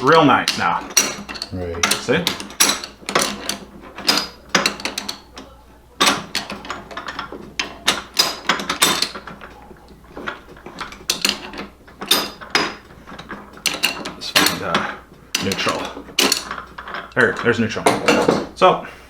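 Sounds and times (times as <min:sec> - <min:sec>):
gearbox shifting clicks and clunks: 0:00.0 - 0:18.6.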